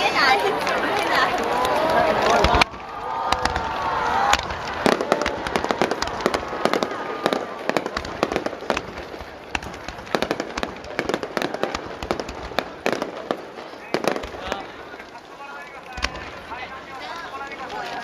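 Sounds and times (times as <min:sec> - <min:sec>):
fireworks bangs: 0:00.0 - 0:18.0
fireworks popping and crackling: 0:00.0 - 0:18.0.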